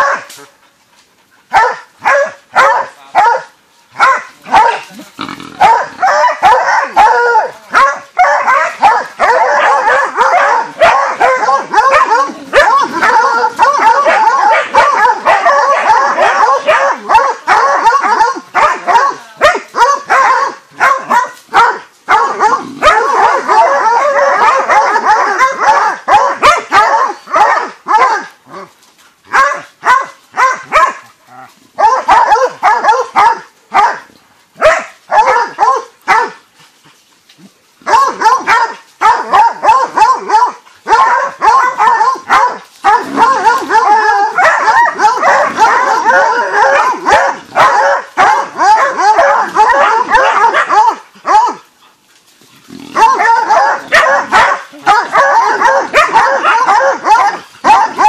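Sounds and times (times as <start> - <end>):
dogs barking and yelping: 0.0 - 0.3, 1.4 - 36.4, 37.4 - 58.0.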